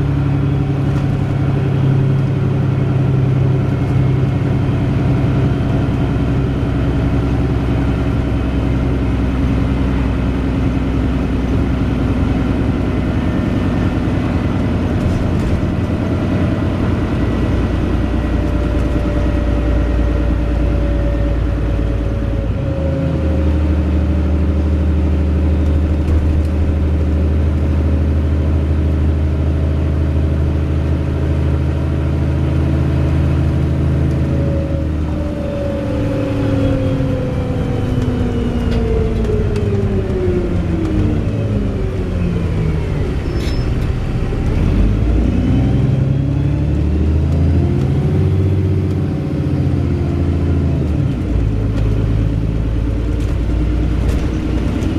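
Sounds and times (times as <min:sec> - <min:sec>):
bus engine running: 0:00.0 - 0:54.9.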